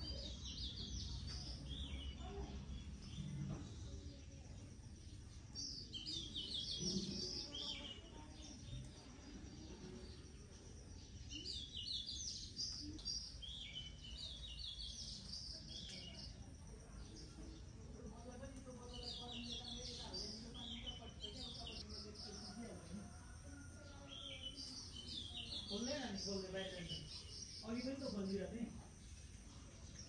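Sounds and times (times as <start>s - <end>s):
low outdoor background noise: 0.0s - 30.0s
small birds chirping: 0.0s - 30.0s.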